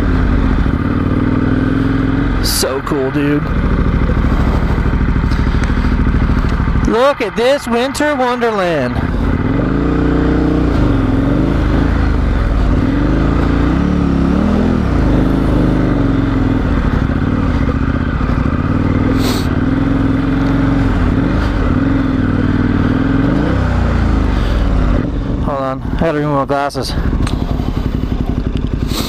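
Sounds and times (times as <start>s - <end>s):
motorcycle engine running under load: 0.0s - 29.0s.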